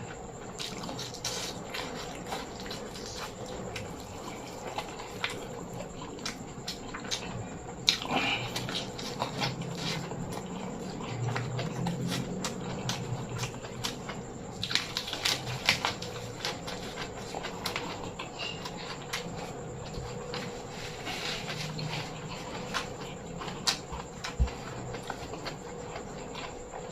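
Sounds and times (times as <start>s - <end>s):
person chewing food: 0.0s - 26.9s.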